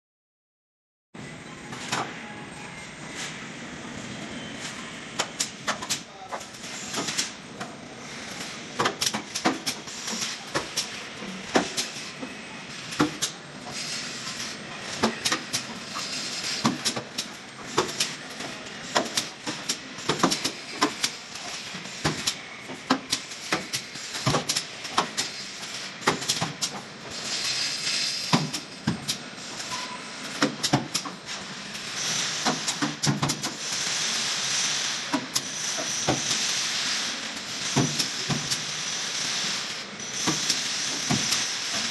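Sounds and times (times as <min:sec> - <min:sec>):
machine noise: 0:01.3 - 0:41.9.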